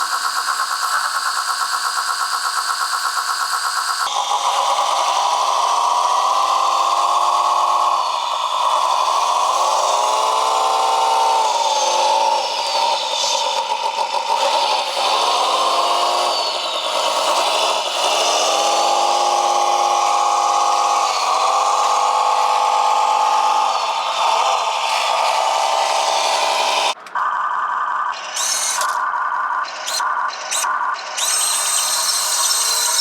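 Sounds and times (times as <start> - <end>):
rc bulldozer motors whining: 0.0 - 33.0.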